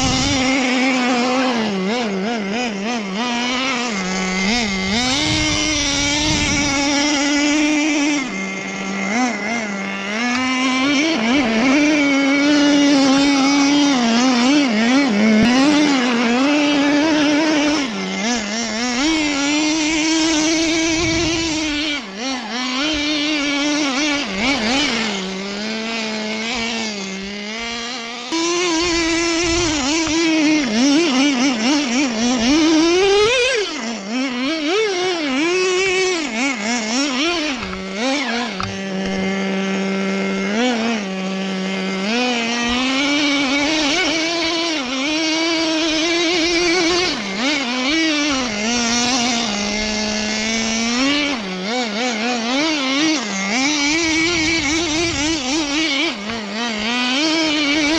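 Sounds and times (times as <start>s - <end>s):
small nitro engine revving: 0.0s - 57.9s.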